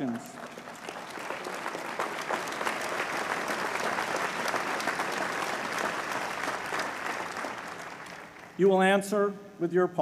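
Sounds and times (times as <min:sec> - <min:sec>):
large audience applauding: 0:00.0 - 0:08.9.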